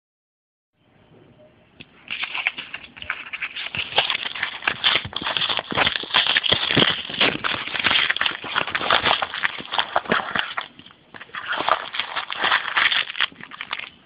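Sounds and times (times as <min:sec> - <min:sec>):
padded mailer crinkling: 0:02.0 - 0:14.0.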